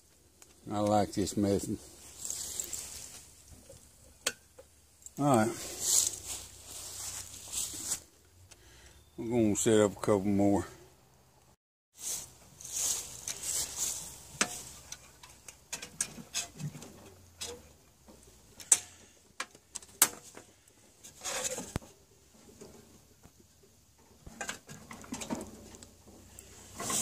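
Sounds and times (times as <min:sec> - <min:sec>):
rustling and scraping: 0:00.0 - 0:08.6, 0:12.0 - 0:27.0.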